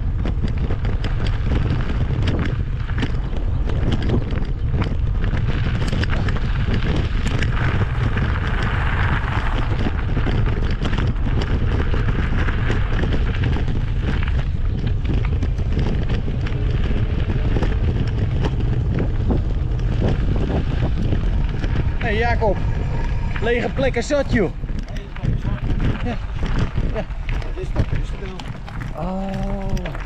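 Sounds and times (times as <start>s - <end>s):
tyres crackling over gravel: 0.0s - 30.0s
wind rumbling on microphone: 0.0s - 30.0s.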